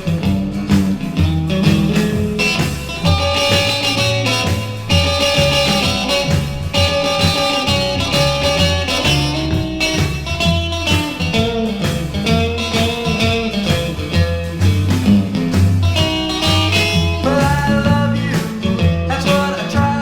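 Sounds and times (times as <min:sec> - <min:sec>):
instrumental rock music: 0:00.0 - 0:20.0.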